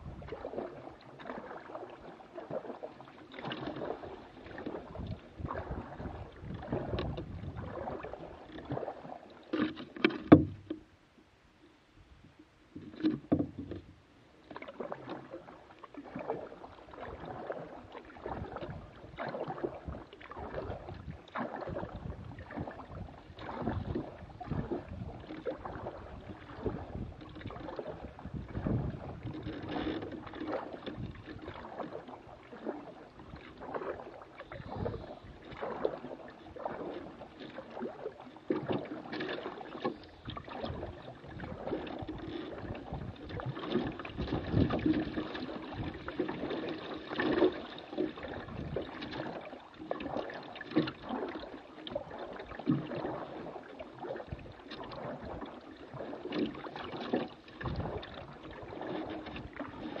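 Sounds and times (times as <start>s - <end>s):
knocks and splashes: 0.0s - 10.9s, 12.7s - 13.9s, 14.5s - 60.0s
water lapping against boat: 0.0s - 11.0s, 11.7s - 60.0s.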